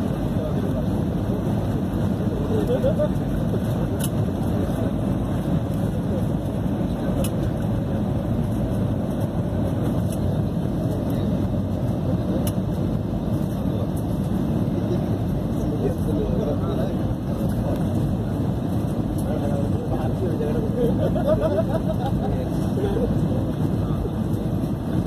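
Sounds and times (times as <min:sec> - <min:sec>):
airliner cabin engine rush: 0:00.0 - 0:25.0.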